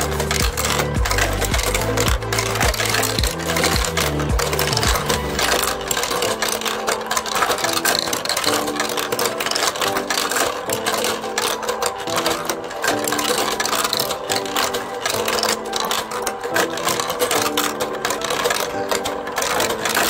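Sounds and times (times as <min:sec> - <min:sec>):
background music: 0:00.0 - 0:20.0
marbles rolling on plastic tracks: 0:00.0 - 0:20.0
motorized lift clicking: 0:00.0 - 0:20.0.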